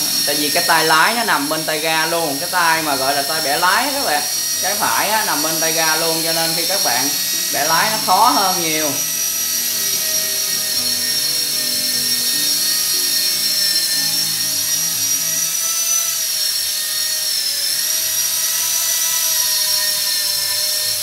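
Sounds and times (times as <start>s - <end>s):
model airplane motor whining: 0.0s - 21.0s.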